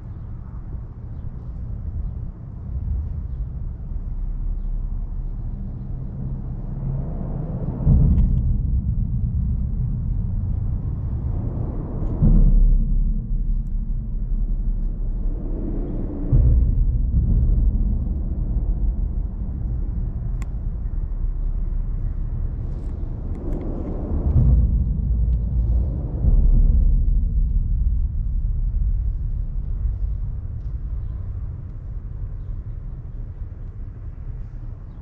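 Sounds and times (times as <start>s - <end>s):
low rumble of traffic: 0.0s - 35.0s.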